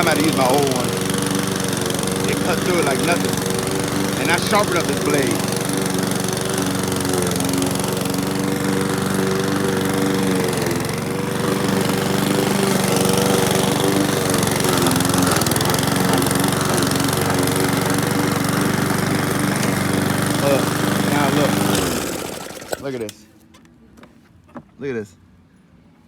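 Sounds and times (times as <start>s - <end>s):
lawn mower cutting grass: 0.0s - 23.1s.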